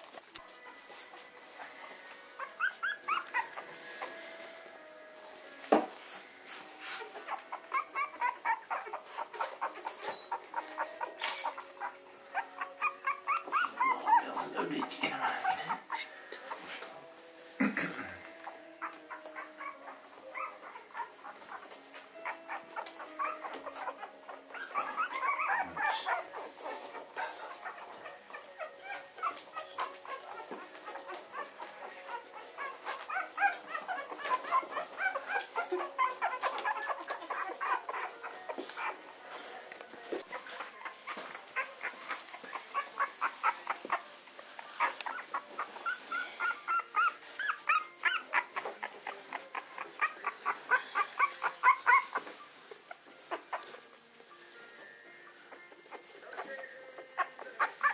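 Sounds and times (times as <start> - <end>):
puppies whimpering and squeaking: 0.0 - 17.1, 18.2 - 57.9.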